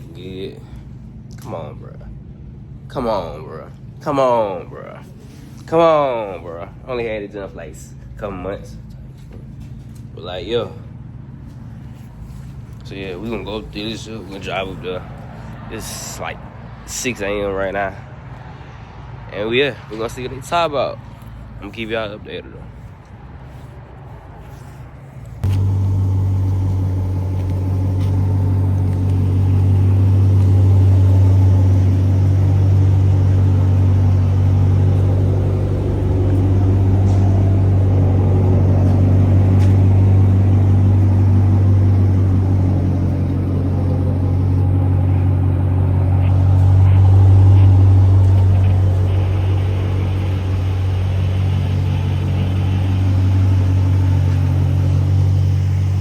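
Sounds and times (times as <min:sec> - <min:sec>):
car engine drone: 0:00.0 - 0:56.0
road noise: 0:00.0 - 0:56.0.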